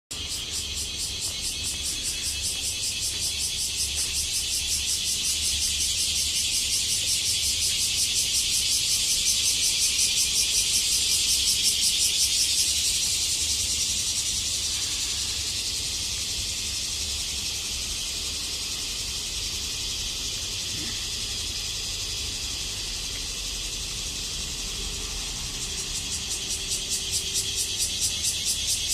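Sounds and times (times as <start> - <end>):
cicadas buzzing: 0.1 - 28.9.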